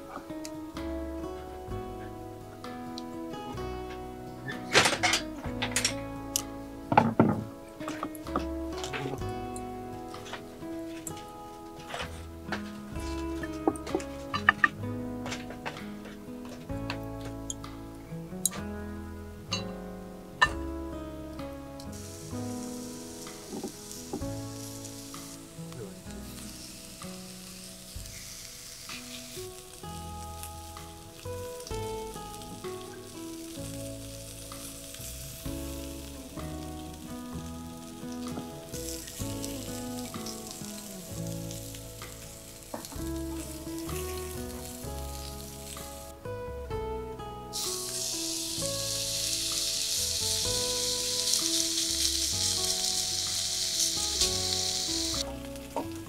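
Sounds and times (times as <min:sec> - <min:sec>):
food sizzling in a pan: 0:00.0 - 0:18.4, 0:19.0 - 0:46.3, 0:47.4 - 0:56.0
soft background music: 0:00.0 - 0:56.0.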